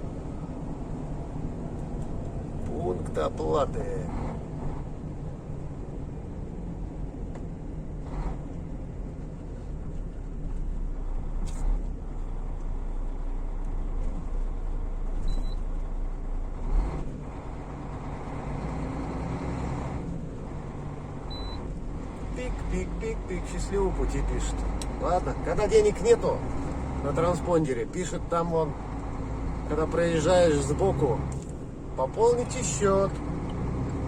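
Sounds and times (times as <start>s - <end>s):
diesel engine rumble: 0.0s - 34.0s
road noise: 0.0s - 34.0s.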